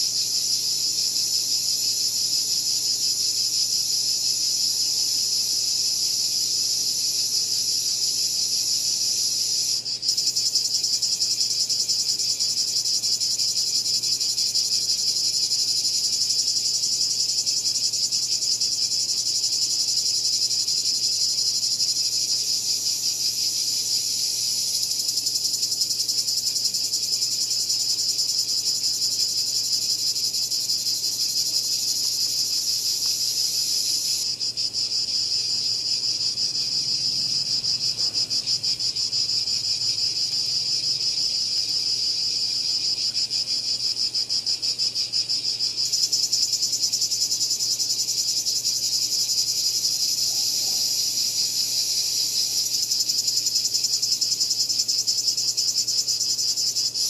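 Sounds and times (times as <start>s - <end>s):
cicada buzzing: 0.0s - 57.0s.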